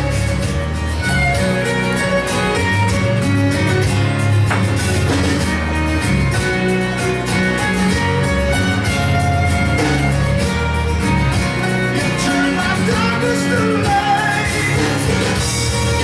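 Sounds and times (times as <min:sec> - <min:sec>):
guitar country music: 0:00.0 - 0:16.0.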